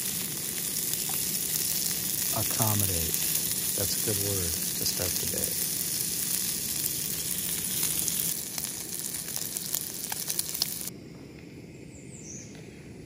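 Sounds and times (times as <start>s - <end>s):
sausage sizzling in a frying pan: 0.0s - 10.9s
spatula turning food in pan: 0.0s - 10.9s.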